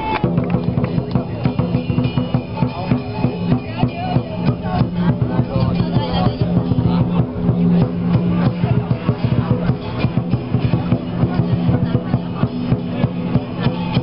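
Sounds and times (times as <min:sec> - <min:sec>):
cymbals clashing: 0:00.0 - 0:14.0
large drum beaten rapidly: 0:00.0 - 0:14.0.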